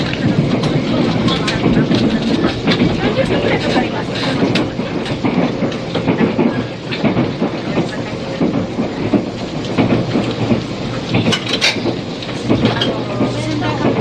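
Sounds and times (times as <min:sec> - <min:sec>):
train running rumble: 0:00.0 - 0:14.0
wheels clicking over rail joints: 0:00.0 - 0:14.0.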